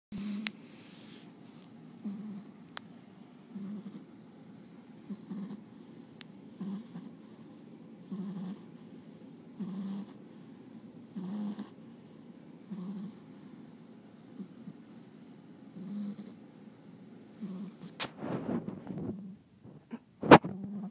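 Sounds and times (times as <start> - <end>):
dog snoring: 0.1 - 1.2, 1.9 - 2.6, 3.4 - 19.4, 20.2 - 20.9.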